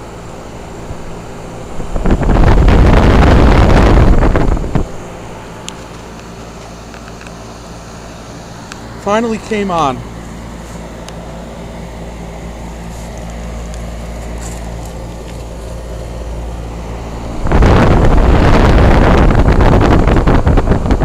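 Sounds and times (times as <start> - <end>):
fan air rushing on microphone: 0.0 - 21.0
heat pump compressor humming: 0.0 - 21.0.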